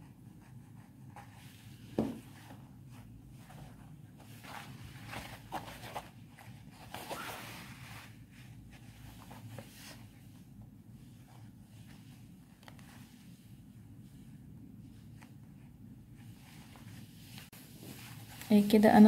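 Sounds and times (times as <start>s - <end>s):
low steady hum: 0.0s - 19.0s
cloth rustling: 0.9s - 18.8s.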